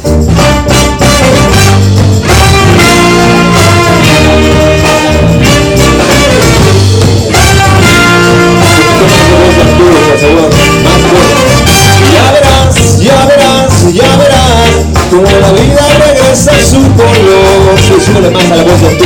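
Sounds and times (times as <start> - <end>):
live band playing ska: 0.0 - 19.0
steady bass line: 0.0 - 19.0.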